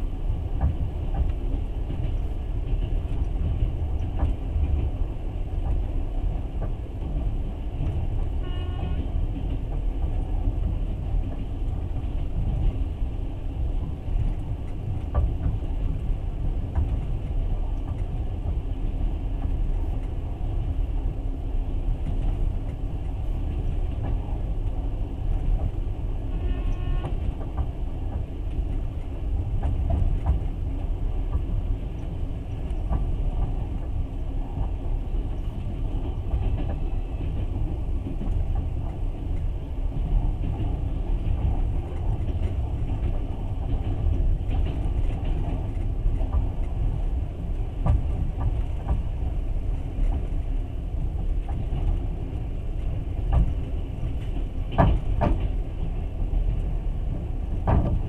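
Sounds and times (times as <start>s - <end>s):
train rumbling inside carriage: 0.0s - 58.0s.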